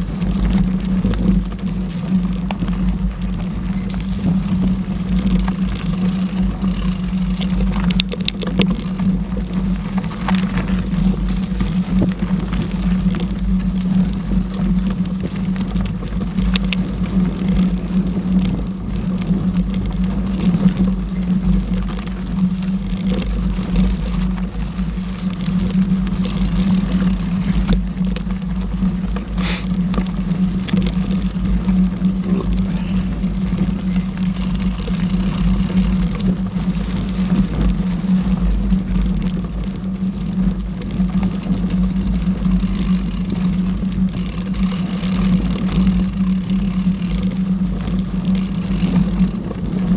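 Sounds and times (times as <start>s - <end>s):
mountain bike rumbling on trail: 0.0s - 49.9s
wind buffeting microphone: 0.0s - 49.9s.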